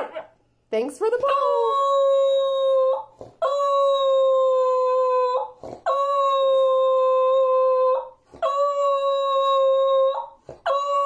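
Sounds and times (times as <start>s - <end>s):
dog howling: 1.3s - 11.0s.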